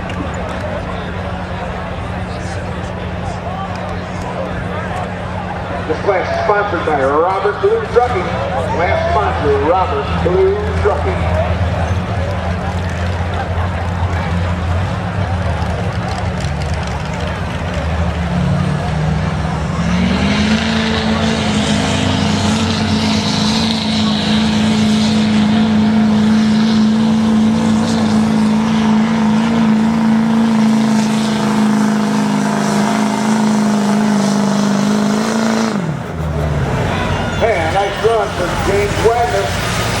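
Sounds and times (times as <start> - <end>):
diesel pickup engine revving: 0.0 - 40.0.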